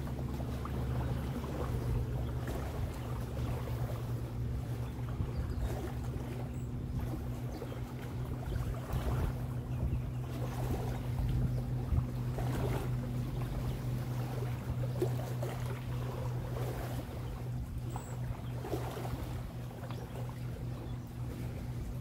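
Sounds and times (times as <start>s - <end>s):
motorboat engine humming: 0.0s - 22.0s
small waves washing on shore: 0.0s - 22.0s
wind: 0.0s - 22.0s.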